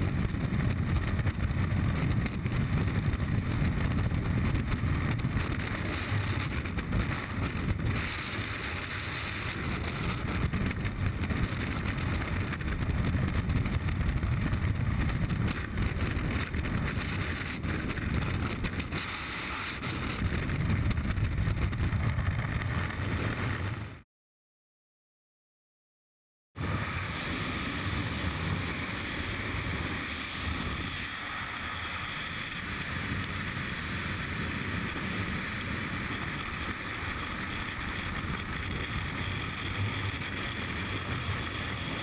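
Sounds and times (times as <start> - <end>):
wind buffeting microphone: 0.0 - 24.0, 26.6 - 42.0.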